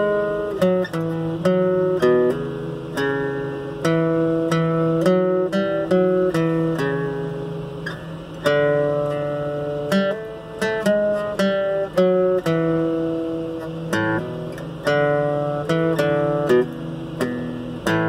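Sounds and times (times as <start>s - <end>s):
acoustic guitar chords: 0.0s - 18.0s.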